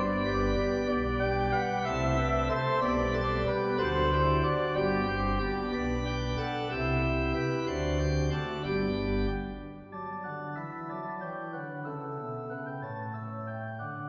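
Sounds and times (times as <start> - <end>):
pipe organ music: 0.0 - 14.0.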